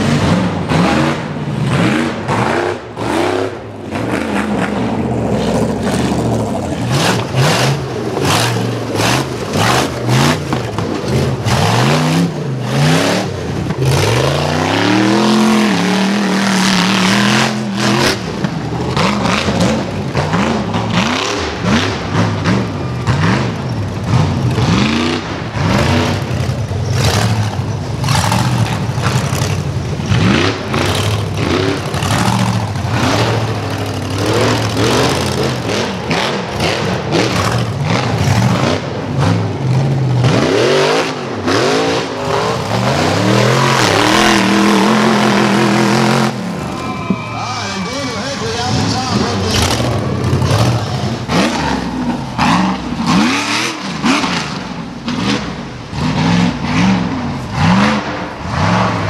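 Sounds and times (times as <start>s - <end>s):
buggy engine revving hard: 0.0s - 59.0s.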